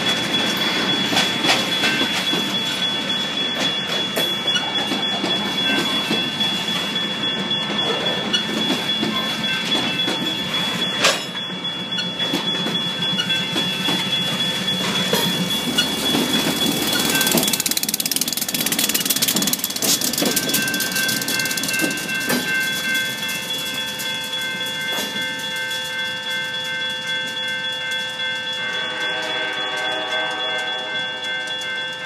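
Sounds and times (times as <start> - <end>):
freight cars clattering on rails: 0.0 - 32.0
railroad crossing bell ringing: 0.0 - 32.0.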